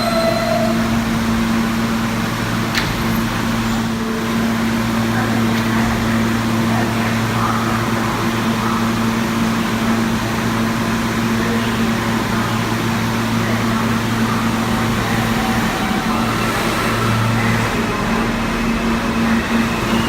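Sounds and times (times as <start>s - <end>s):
subway car hum and rush: 0.0s - 20.0s.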